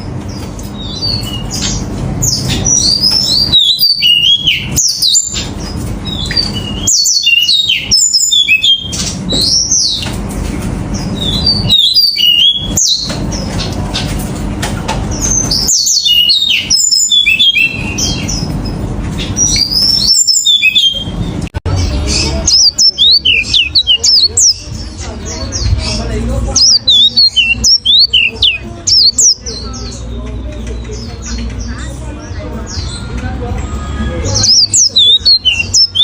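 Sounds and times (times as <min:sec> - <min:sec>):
finch singing chirps and trills: 0:00.0 - 0:10.2, 0:10.9 - 0:14.2, 0:15.1 - 0:36.0.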